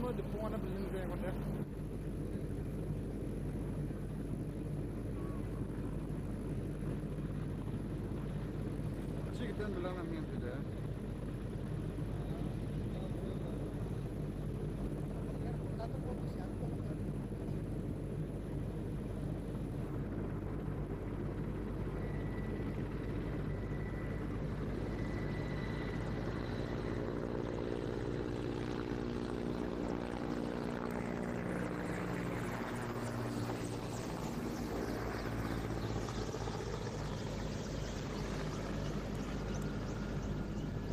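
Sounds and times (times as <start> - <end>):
helicopter rotors and engines: 0.0 - 40.9.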